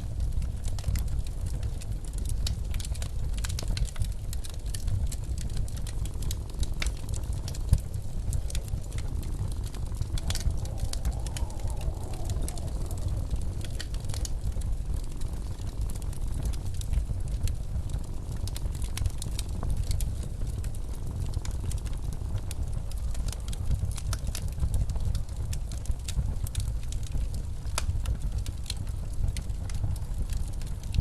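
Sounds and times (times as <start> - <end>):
blizzard wind rumble: 0.0 - 31.0
wood fire crackling: 0.0 - 31.0.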